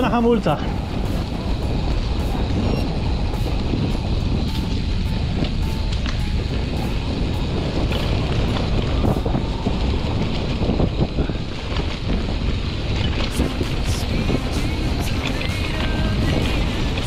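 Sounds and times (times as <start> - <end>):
mountain bike rattle: 0.0 - 17.0
tyre noise on rough trail: 0.0 - 17.0
wind rumbling on microphone: 0.0 - 17.0.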